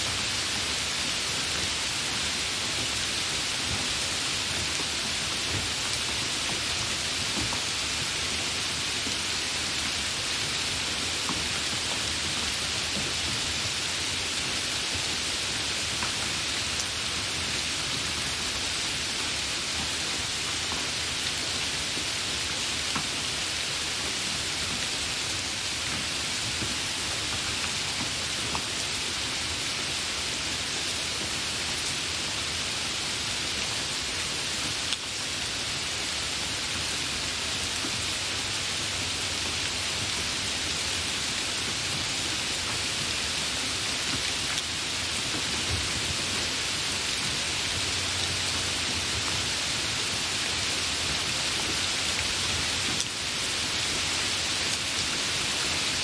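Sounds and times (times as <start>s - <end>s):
hard rain falling: 0.0s - 56.0s.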